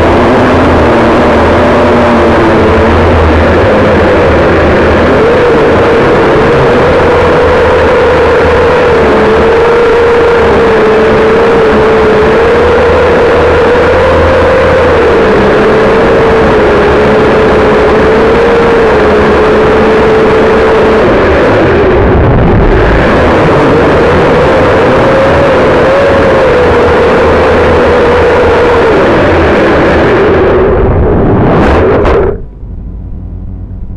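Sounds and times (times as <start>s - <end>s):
drone propellers buzzing: 0.0s - 33.9s
rush of low noise: 0.0s - 33.9s.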